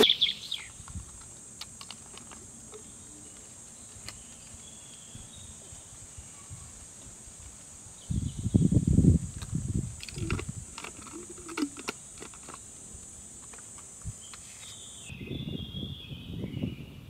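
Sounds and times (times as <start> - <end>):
high-pitched insect drone: 0.0 - 16.7.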